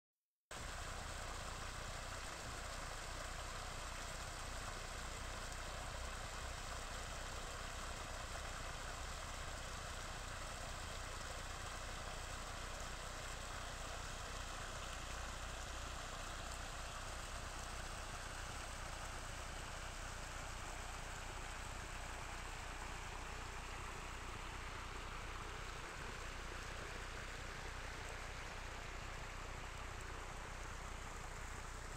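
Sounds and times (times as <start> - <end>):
floodwater rushing over gravel: 0.6 - 31.9.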